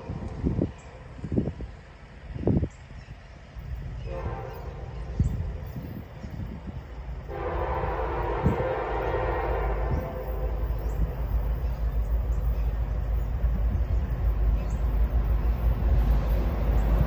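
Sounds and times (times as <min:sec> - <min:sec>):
freight train rumble: 0:00.0 - 0:17.0.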